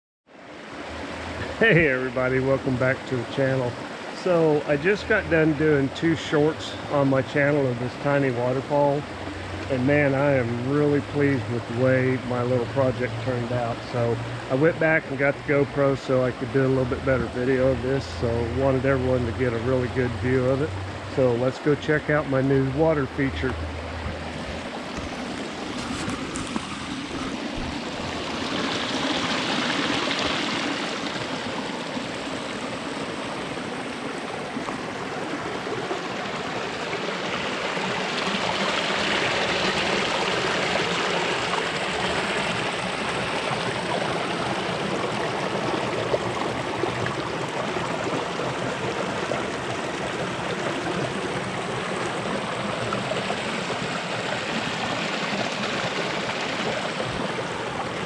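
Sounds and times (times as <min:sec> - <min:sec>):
creek water rushing: 0:00.3 - 0:58.0.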